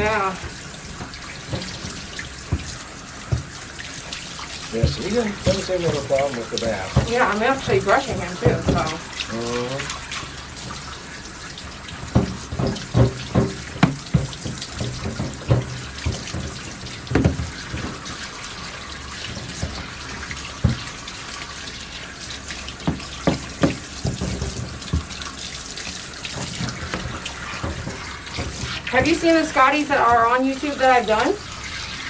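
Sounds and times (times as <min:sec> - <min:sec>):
short knocks and thumps: 0:00.0 - 0:10.9, 0:11.6 - 0:18.2, 0:18.9 - 0:21.0, 0:22.5 - 0:31.3
water running and spraying: 0:00.0 - 0:32.0.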